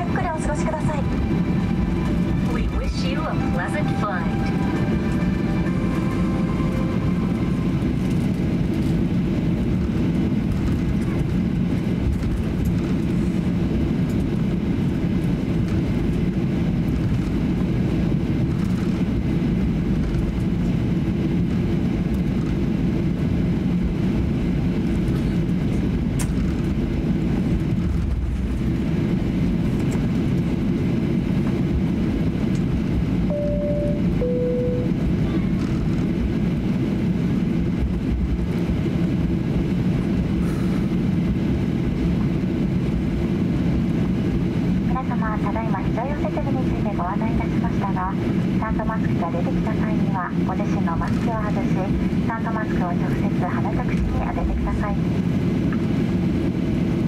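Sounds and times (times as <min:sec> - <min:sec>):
airframe rolling on taxiway: 0:00.0 - 0:57.0
jet engines low rumble: 0:00.0 - 0:57.0.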